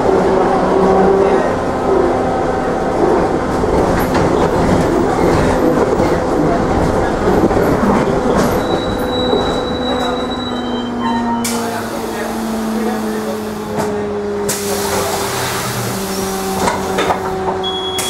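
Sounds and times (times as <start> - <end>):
road rumble: 0.0 - 18.0
rattling bus body: 1.2 - 18.0.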